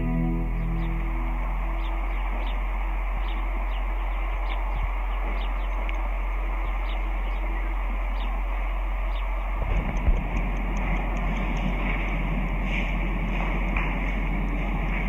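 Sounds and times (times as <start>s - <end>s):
steady hiss and low hum: 0.0s - 15.0s.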